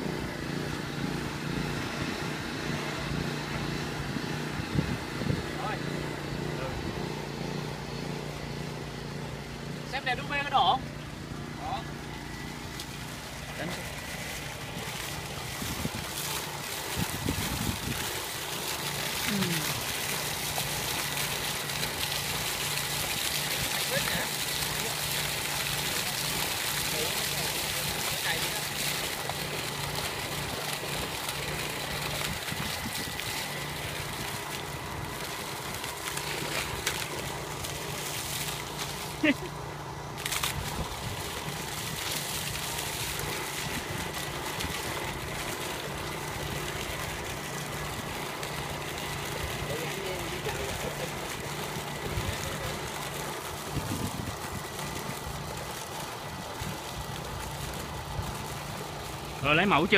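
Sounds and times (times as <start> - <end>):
water gushing from hose: 0.0 - 59.9
water pump humming: 0.0 - 59.9.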